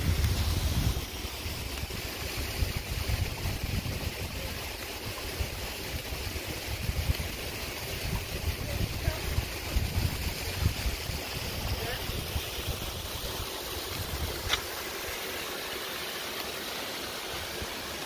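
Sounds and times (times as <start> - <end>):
wind buffeting microphone: 0.0 - 14.7.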